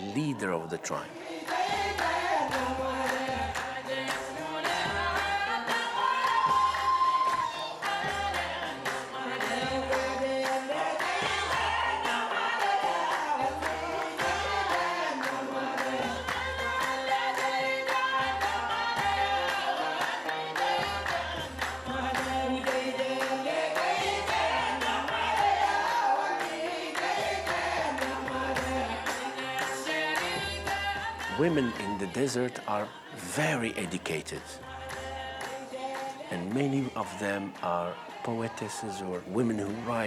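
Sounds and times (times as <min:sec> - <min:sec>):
group singing in unison: 0:00.0 - 0:40.0.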